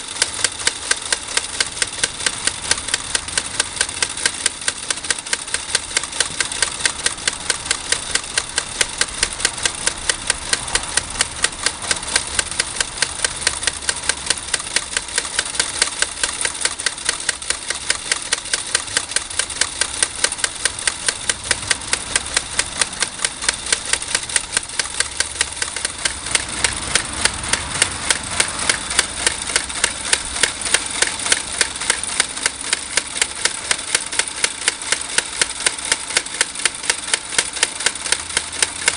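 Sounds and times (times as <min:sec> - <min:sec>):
steam engine exhaust beat: 0:00.0 - 0:38.9
toy steam engine hissing: 0:00.0 - 0:38.9.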